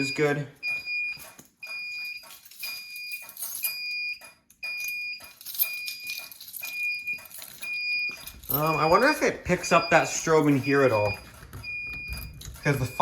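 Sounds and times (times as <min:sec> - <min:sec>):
alarm beeping high tone: 0:00.0 - 0:13.0.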